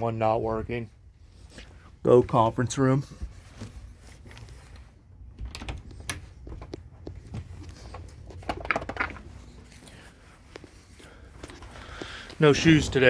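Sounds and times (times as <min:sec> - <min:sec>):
footsteps: 0:00.5 - 0:13.0.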